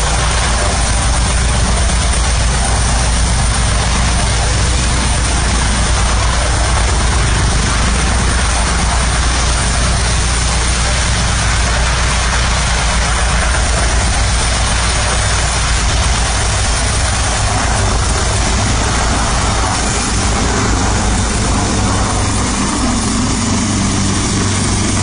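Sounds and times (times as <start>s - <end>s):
helicopter engine and rotor: 0.0s - 25.0s.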